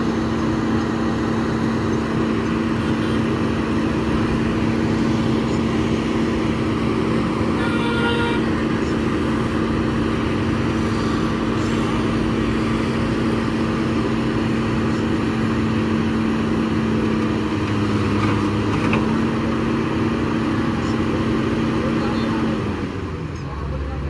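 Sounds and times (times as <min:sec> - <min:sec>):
excavator diesel engine humming: 0:00.0 - 0:24.0.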